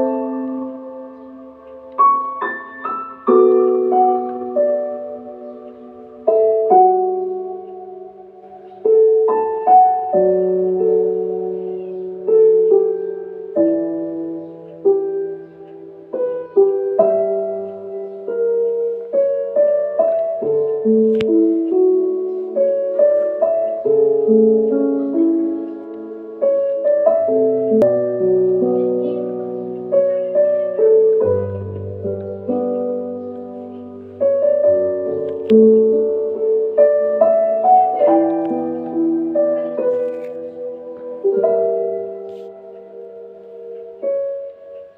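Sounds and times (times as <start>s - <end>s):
slow gentle piano music: 0.0s - 44.9s.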